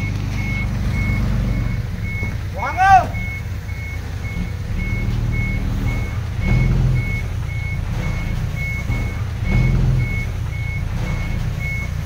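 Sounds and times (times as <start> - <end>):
diesel engine running: 0.0 - 12.0
reversing alarm beeping: 0.0 - 12.0.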